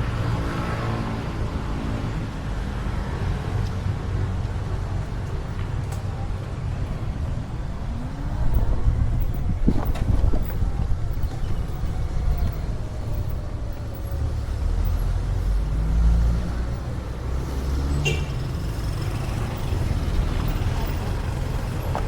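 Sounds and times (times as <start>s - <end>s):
motor vehicles rumbling: 0.0s - 22.0s.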